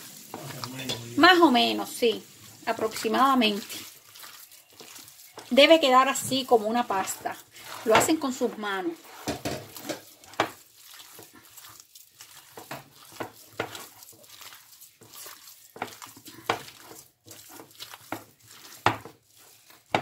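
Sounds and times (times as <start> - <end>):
hands kneading wet meat paste: 0.0 - 20.0.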